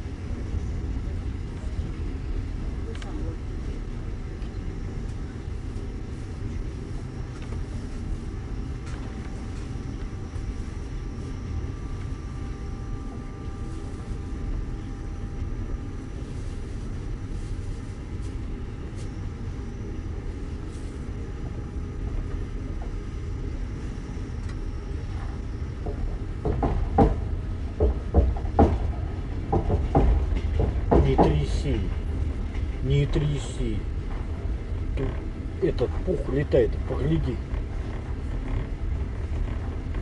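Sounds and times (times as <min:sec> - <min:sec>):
faint steady whine: 0:00.0 - 0:40.0
train rumble inside carriage: 0:00.0 - 0:40.0.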